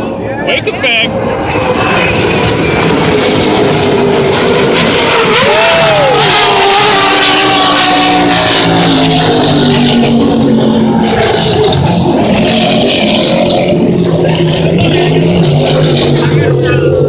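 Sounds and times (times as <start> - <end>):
powerboat engines droning: 0.0 - 17.0.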